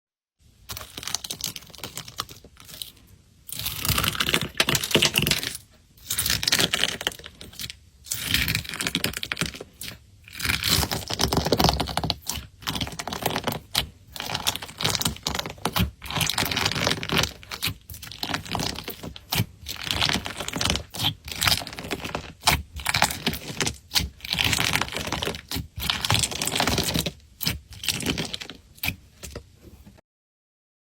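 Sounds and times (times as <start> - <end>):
slime squished by hand: 0.7 - 29.1.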